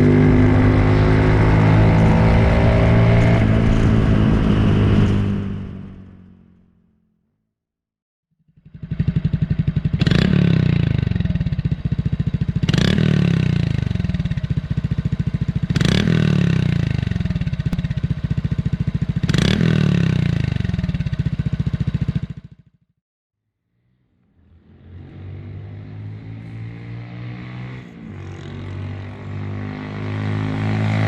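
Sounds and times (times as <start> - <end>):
motorcycle engine idling and revving: 0.0 - 7.1, 8.4 - 23.0, 23.8 - 31.0.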